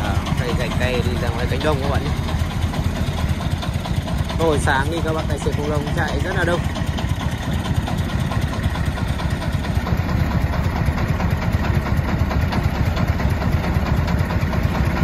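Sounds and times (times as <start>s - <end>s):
engines idling with pulsing rumble: 0.0s - 15.0s.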